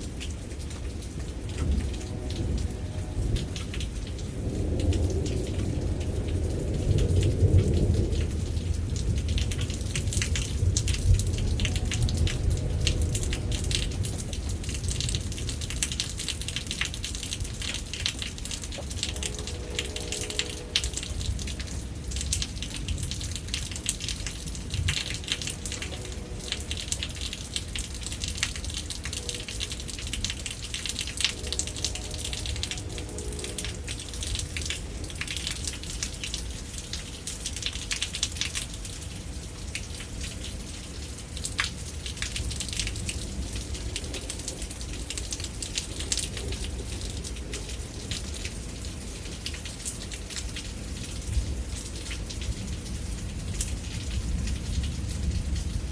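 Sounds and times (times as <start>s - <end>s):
low continuous rumble: 0.0s - 49.7s
raindrops striking hard surfaces: 0.0s - 55.9s.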